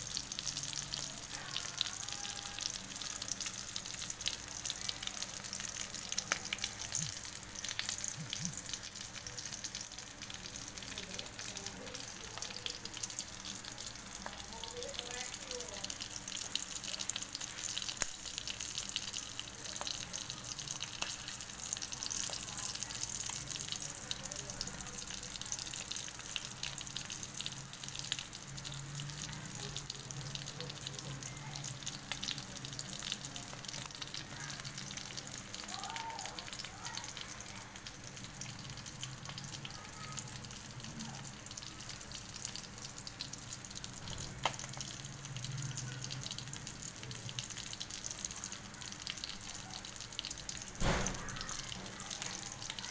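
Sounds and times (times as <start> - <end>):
fish sizzling in hot oil: 0.0 - 52.9.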